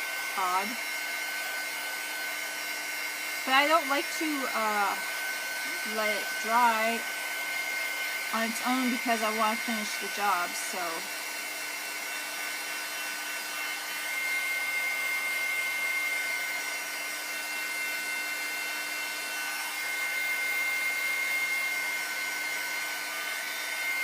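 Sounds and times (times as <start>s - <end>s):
hair dryer running: 0.0s - 24.0s.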